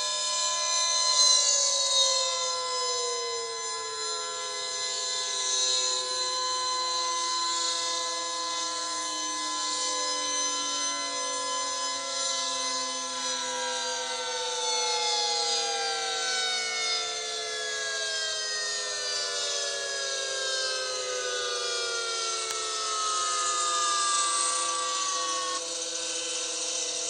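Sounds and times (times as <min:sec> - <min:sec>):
low steady siren tones: 0:00.0 - 0:27.0
warning sirens winding down: 0:00.0 - 0:27.0.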